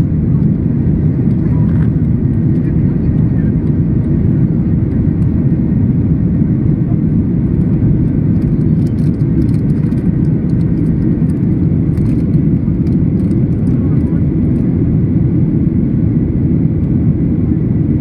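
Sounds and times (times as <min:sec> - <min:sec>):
jet cabin rumble: 0:00.0 - 0:18.0.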